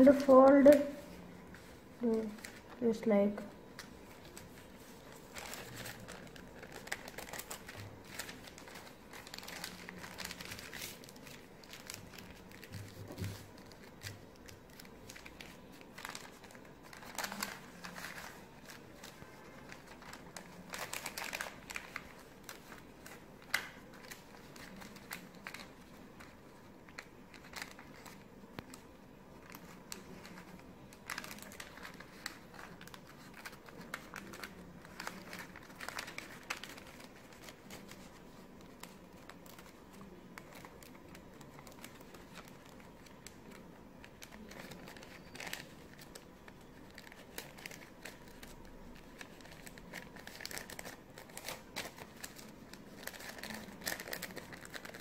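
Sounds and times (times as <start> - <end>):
paper crinkling and rustling: 0.0 - 55.0.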